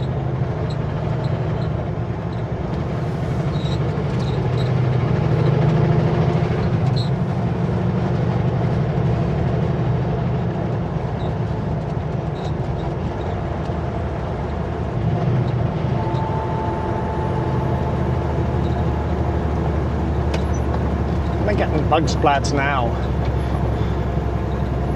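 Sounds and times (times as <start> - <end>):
diesel engine drone: 0.0 - 24.9
road noise: 0.0 - 24.9.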